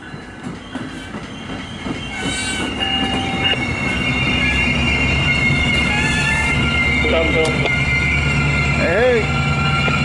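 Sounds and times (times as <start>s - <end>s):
train running gear rumble: 0.0s - 10.0s
high-pitched wheel squeal: 0.6s - 10.0s.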